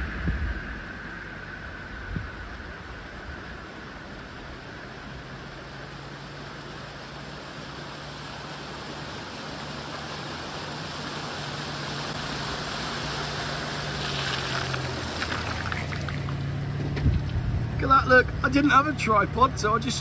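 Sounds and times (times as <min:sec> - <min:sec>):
car engine running: 0:00.0 - 0:20.0
water rushing: 0:00.0 - 0:20.0
tyres splashing through water: 0:03.8 - 0:20.0.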